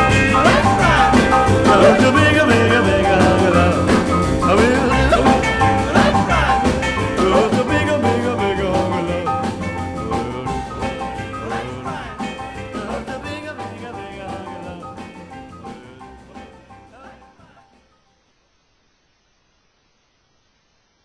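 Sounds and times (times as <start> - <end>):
rock and roll band music: 0.0 - 17.7.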